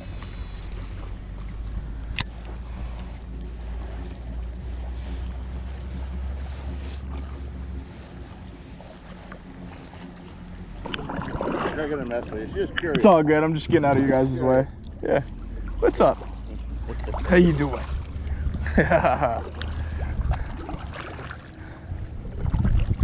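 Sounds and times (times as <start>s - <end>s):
wind and water rumble: 0.0s - 23.0s.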